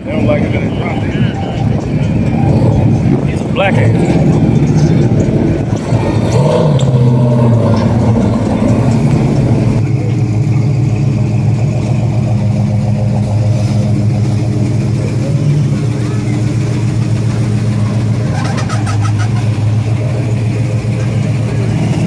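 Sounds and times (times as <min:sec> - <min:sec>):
car engine deep exhaust: 0:00.0 - 0:22.0.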